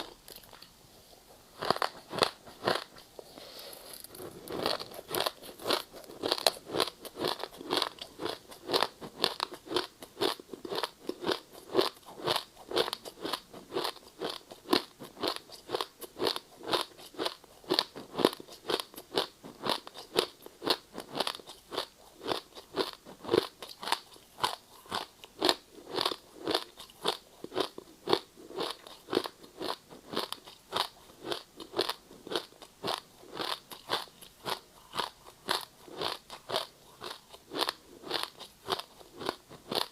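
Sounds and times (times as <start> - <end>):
ice being chewed: 1.5 - 3.0, 3.7 - 39.9.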